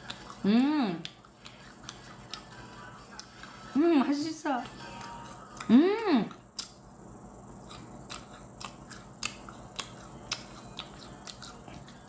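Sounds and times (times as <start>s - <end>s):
person chewing with mouth clicks: 0.0s - 3.6s, 4.6s - 6.8s, 7.6s - 12.0s.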